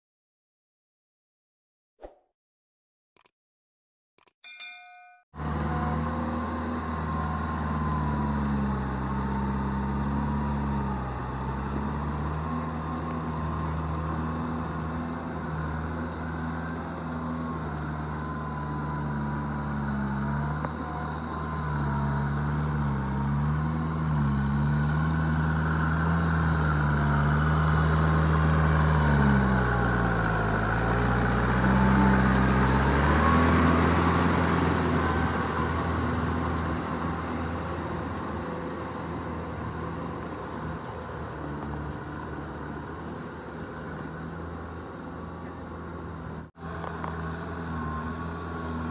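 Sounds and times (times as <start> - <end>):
tractor diesel engine under load: 5.4 - 48.9.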